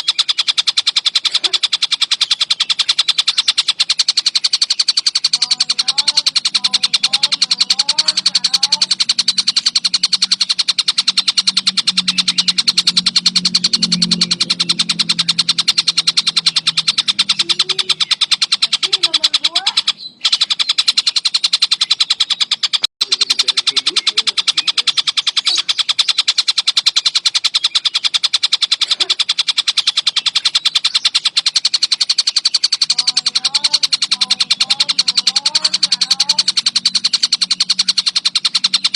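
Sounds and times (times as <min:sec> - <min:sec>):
songbird chattering trill: 0:00.0 - 0:38.9
whistled gliding bird notes: 0:00.0 - 0:38.9.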